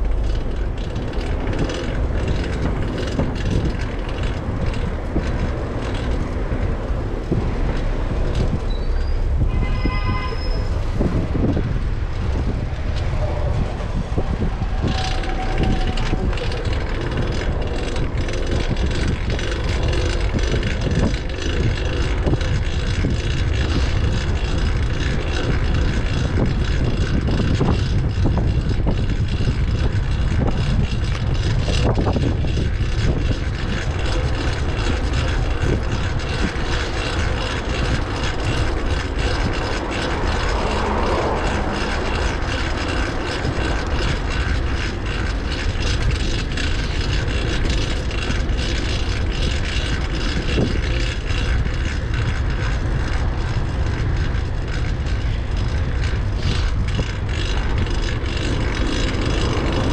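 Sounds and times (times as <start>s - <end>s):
bicycle chain whirring: 0.0s - 59.9s
wind rumbling on microphone: 0.0s - 59.9s.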